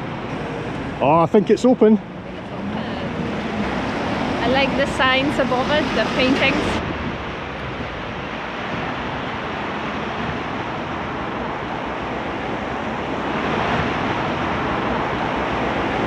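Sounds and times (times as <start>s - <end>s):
rain on wet street: 0.0s - 16.0s
traffic on wet street: 0.0s - 16.0s.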